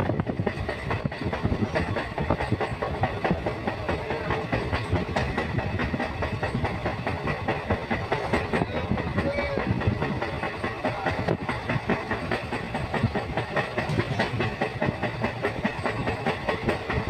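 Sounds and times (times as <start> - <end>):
moving vehicle rumbling and rattling: 0.0 - 17.0.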